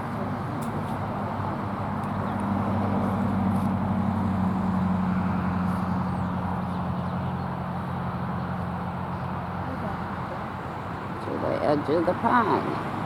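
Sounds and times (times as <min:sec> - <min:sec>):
vehicle traffic hum: 0:00.0 - 0:13.0.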